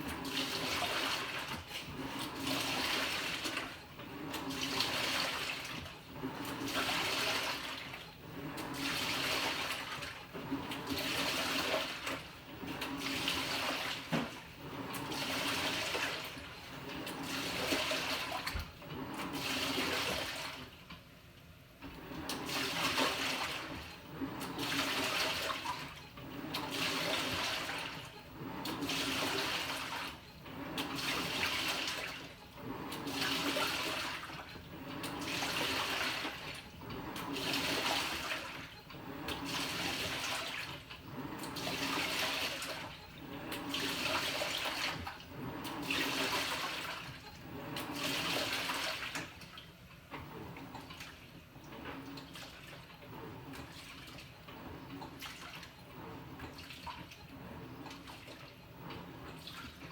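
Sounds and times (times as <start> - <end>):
washing machine sloshing water: 0.0 - 21.2, 21.8 - 59.9.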